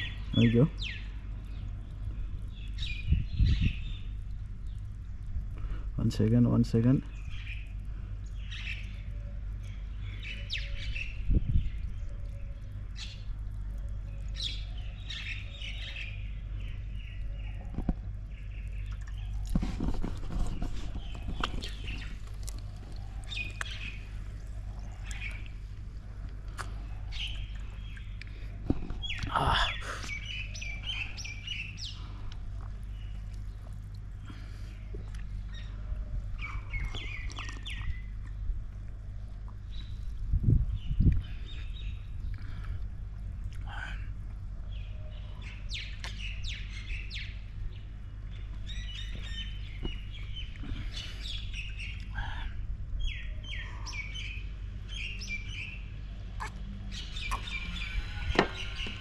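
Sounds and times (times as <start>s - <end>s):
birds chirping: 0.0s - 59.0s
low hum: 0.0s - 59.0s.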